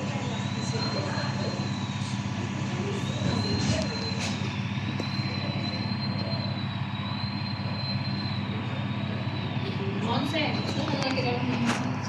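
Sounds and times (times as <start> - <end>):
engine-like hum: 0.0 - 12.0
high wavering whine: 0.0 - 12.0.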